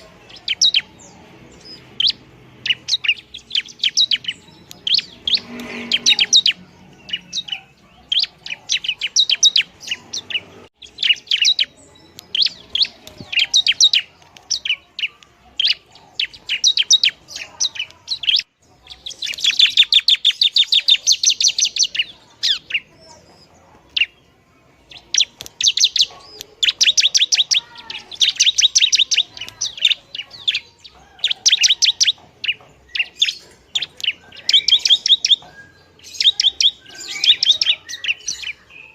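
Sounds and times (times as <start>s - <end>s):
bird trill: 0.0s - 38.9s.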